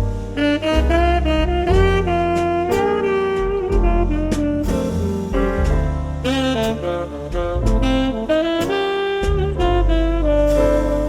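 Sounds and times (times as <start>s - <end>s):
bass: 0.0s - 11.0s
jazz music with saxophone: 0.0s - 11.0s
piano: 0.0s - 11.0s.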